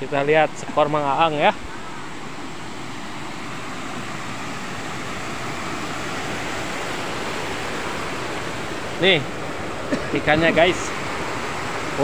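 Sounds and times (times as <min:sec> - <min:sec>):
river water pouring over weir: 0:00.0 - 0:12.0.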